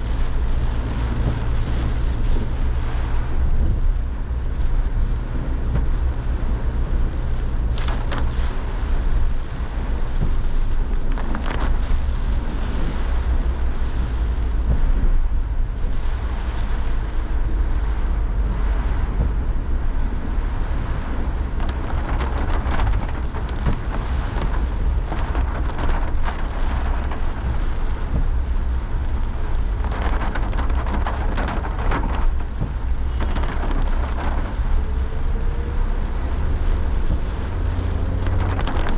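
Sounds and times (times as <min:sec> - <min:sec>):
heavy rain: 0:00.0 - 0:38.9
wind rumbling on microphone: 0:00.0 - 0:38.9.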